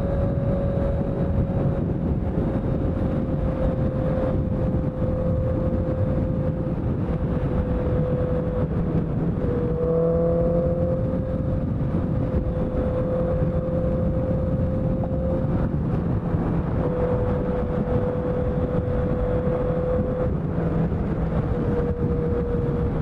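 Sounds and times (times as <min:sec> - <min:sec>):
heavy wind noise: 0:00.0 - 0:23.0
motorcycle engine running: 0:00.0 - 0:23.0
road rumble: 0:00.0 - 0:23.0.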